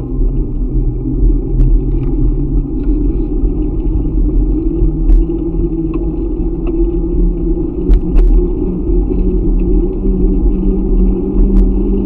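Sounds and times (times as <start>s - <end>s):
bicycle clicks and rattles: 0.0s - 12.0s
wind rumble on microphone: 0.0s - 12.0s.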